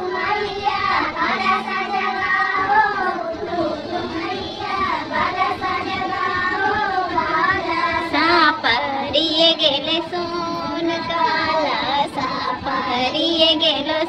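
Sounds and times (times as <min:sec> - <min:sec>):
women singing folk song: 0:00.0 - 0:14.0.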